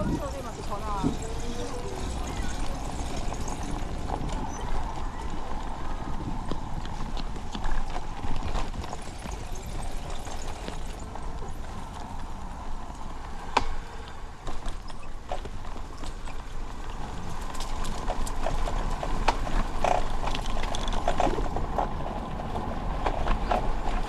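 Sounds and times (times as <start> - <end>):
bicycle clicks and rattles: 0.0 - 24.0
bicycle tyre noise: 0.0 - 24.0
wind: 0.0 - 24.0.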